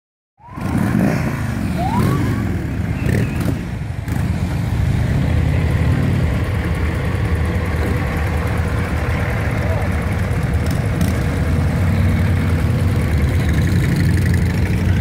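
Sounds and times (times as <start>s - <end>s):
motorcycle engines rumbling: 0.4s - 15.0s.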